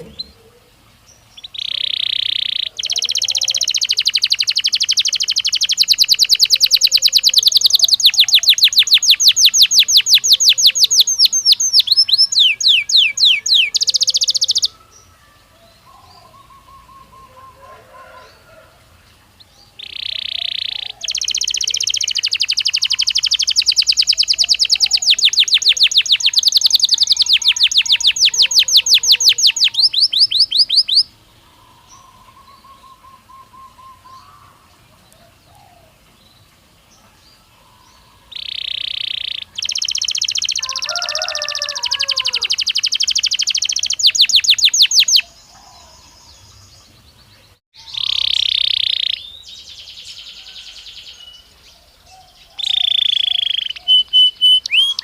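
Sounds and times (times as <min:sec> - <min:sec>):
faint low bird chirping: 0:00.0 - 0:55.0
canary singing high trills: 0:01.2 - 0:18.4, 0:19.6 - 0:34.6, 0:37.8 - 0:46.7, 0:47.8 - 0:51.5, 0:52.4 - 0:55.0.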